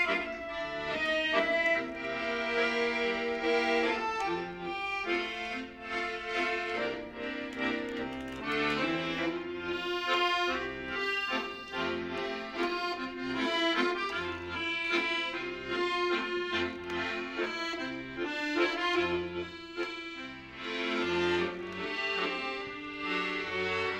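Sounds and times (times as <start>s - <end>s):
solo accordion playing: 0.0s - 23.9s.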